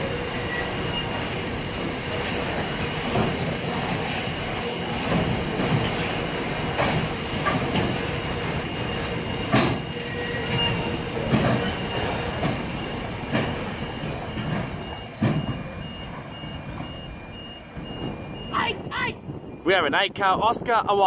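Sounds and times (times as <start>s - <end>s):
train wheels clicking over rail joints: 0.0s - 18.5s
train rumble: 0.0s - 21.0s.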